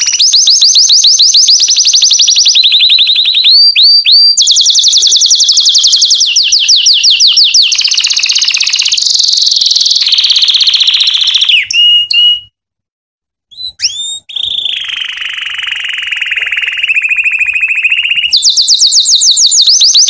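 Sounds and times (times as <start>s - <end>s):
canary singing trills: 0.0s - 12.5s, 13.5s - 20.0s.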